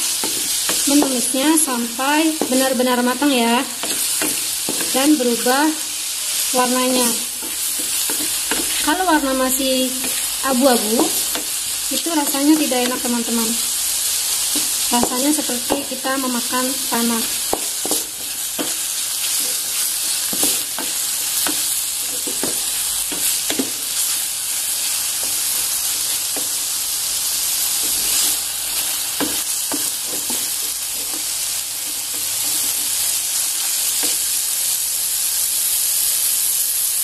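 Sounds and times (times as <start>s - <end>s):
vegetables sizzling in butter: 0.0s - 37.0s.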